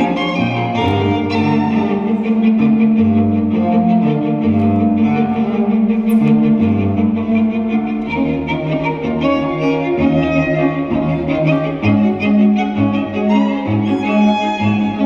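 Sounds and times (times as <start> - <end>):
instrumental string music: 0.0 - 15.0.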